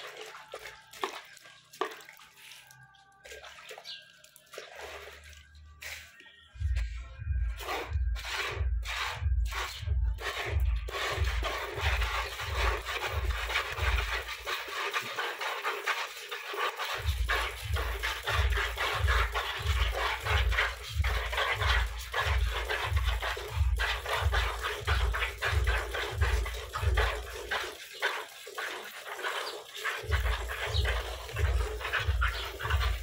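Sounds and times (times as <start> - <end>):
milk squirting into plastic bucket: 0.0 - 6.2, 7.6 - 33.0.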